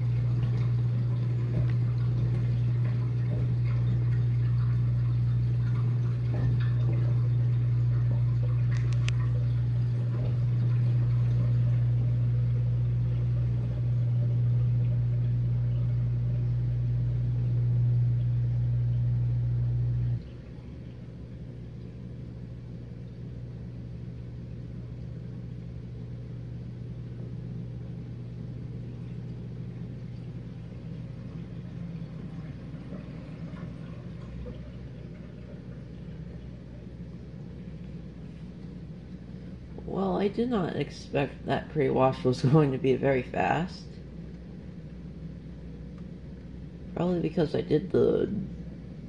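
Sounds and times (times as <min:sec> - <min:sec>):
dishwasher pump motor humming: 0:00.0 - 0:49.0
quieter steady hum: 0:00.0 - 0:49.0.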